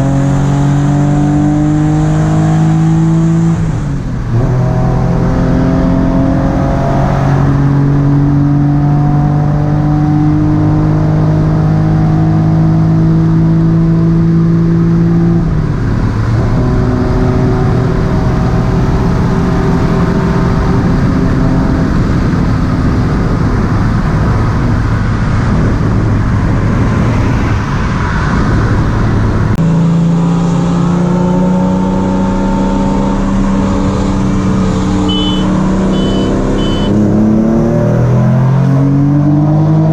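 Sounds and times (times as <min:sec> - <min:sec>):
car engine at full throttle: 0:00.0 - 0:39.9
wind and road noise: 0:00.0 - 0:39.9.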